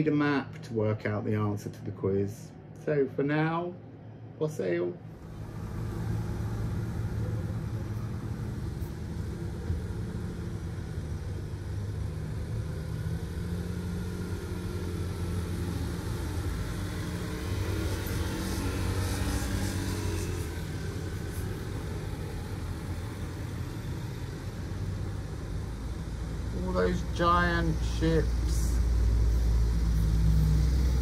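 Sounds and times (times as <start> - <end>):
ship engines droning: 2.6 - 31.0.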